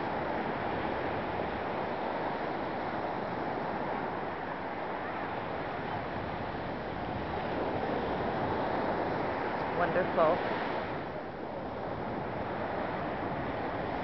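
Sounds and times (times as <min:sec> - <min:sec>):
ocean surf on sandy beach: 0:00.0 - 0:14.0
wind rushing over microphone: 0:00.0 - 0:14.0.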